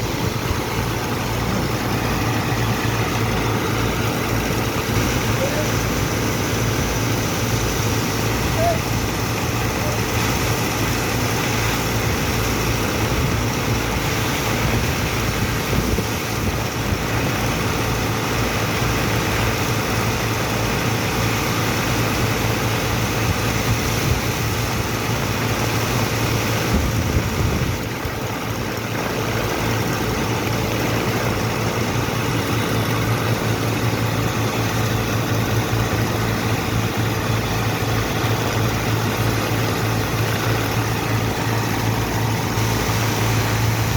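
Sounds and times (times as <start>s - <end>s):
heavy machinery engine humming: 0.0s - 43.9s.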